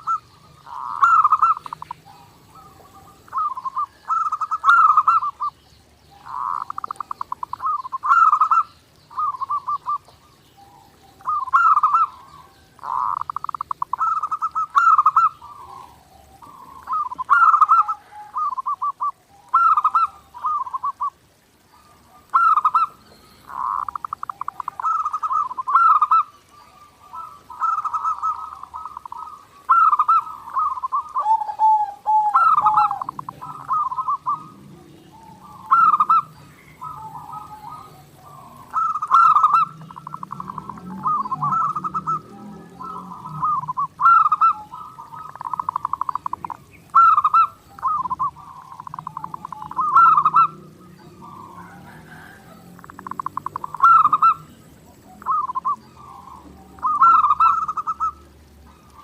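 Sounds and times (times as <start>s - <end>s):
dove trilling and cooing: 0.0s - 59.0s.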